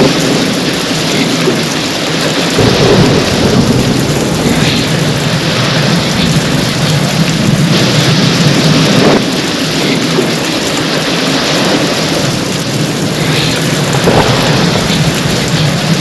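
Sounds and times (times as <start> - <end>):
heavy rain pouring: 0.0 - 16.0
low thunder rumble: 0.0 - 16.0.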